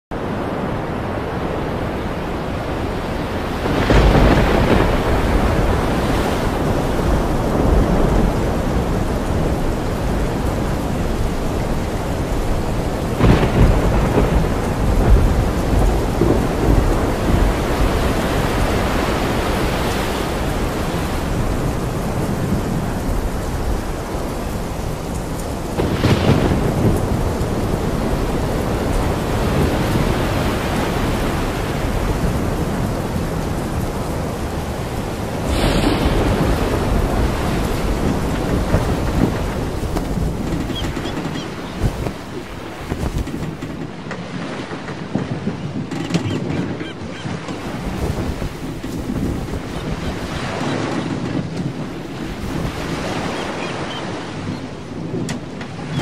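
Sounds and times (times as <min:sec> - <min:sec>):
rushing water and wind: 0:00.1 - 0:56.0
waves breaking over deck: 0:00.1 - 0:56.0.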